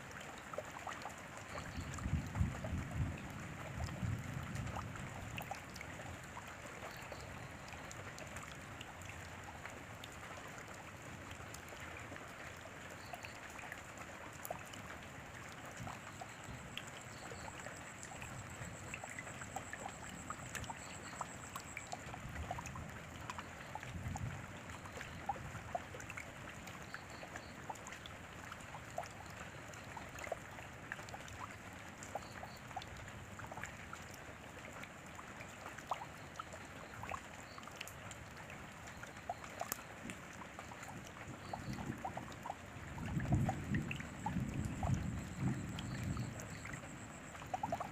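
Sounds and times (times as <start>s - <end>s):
rain drops ticking on a surface: 0.0s - 47.9s.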